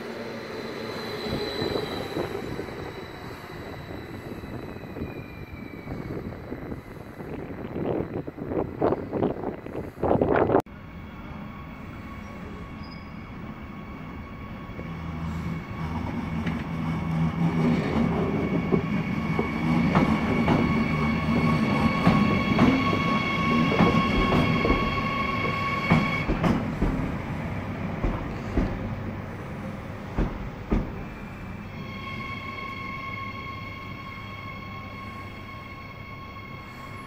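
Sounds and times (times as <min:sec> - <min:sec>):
passing train rumble: 0:00.0 - 0:37.0.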